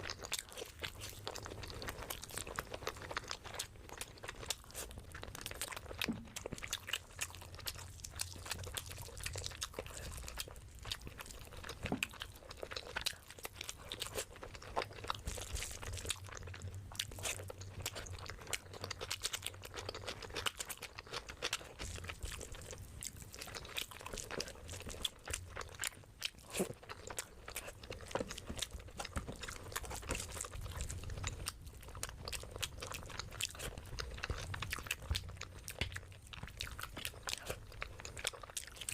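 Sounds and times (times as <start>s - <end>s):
chewing with crunchy bites: 0.0s - 38.9s.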